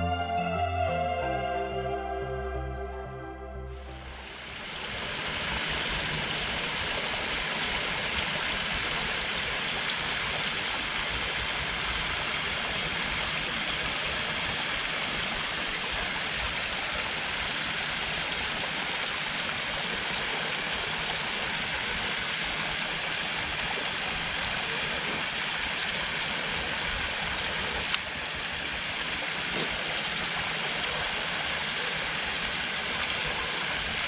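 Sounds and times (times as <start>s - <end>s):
brook flowing: 0.0s - 34.0s.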